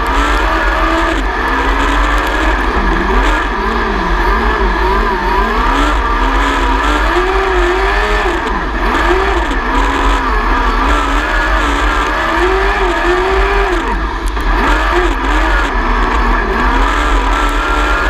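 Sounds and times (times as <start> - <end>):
sprint car engine racing: 0.0 - 18.0.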